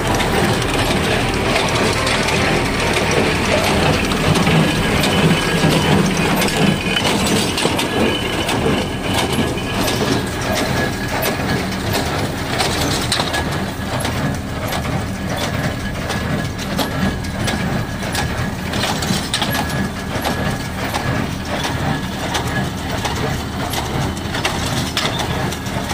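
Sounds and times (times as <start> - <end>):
hay baler clattering: 0.0 - 25.9
tractor engine running: 0.0 - 25.9.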